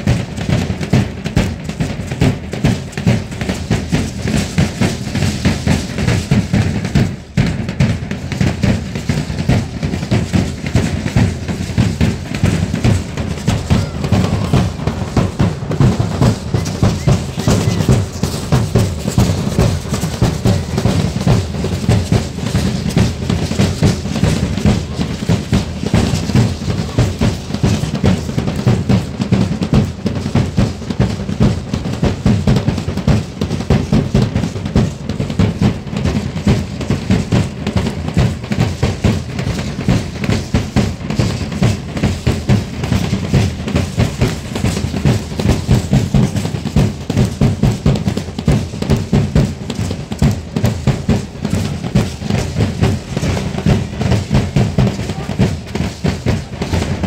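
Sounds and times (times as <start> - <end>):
drums beating dance rhythm: 0.0 - 57.0.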